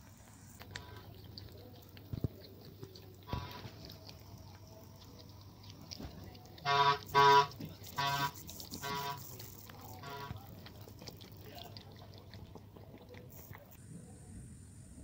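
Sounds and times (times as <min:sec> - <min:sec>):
cat licking kitten: 0:00.0 - 0:14.1.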